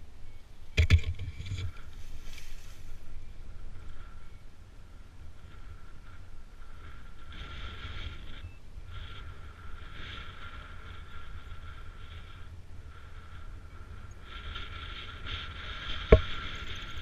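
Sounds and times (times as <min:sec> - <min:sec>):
wind buffeting microphone: 0:00.7 - 0:17.0
high hiss with thin tone: 0:01.7 - 0:17.0.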